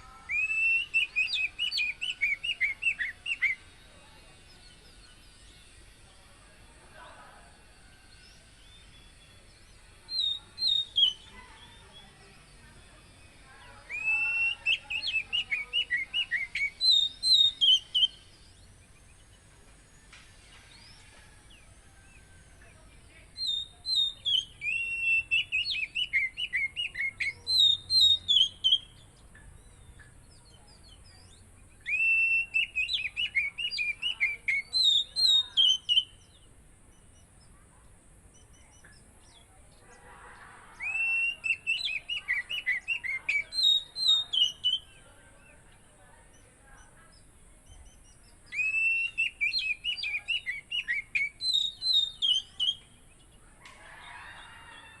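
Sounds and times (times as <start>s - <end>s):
bird singing whistled notes: 0.0s - 6.2s, 8.0s - 37.6s, 40.7s - 53.6s.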